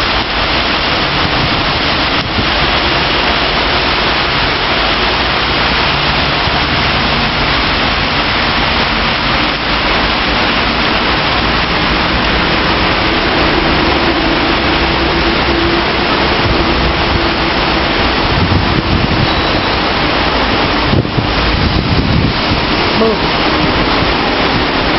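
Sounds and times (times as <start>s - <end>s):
torrential rain pouring: 0.0s - 24.9s.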